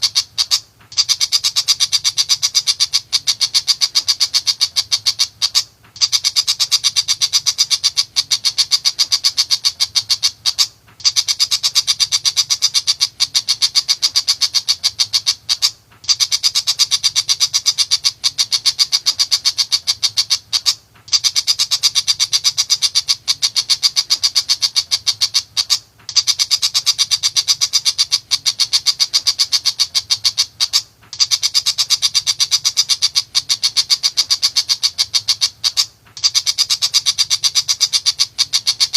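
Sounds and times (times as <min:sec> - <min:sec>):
bird chattering call: 0:00.0 - 0:38.9.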